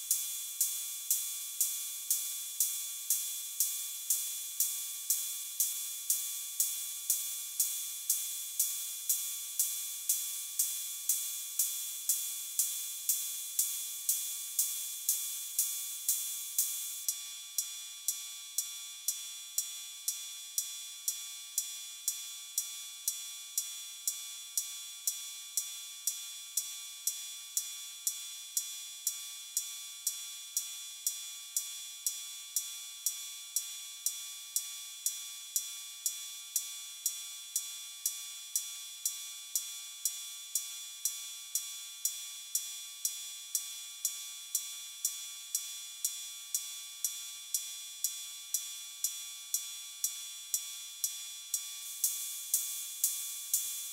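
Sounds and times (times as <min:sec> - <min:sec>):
metallic electronic cymbal ticks: 0:00.0 - 0:53.9.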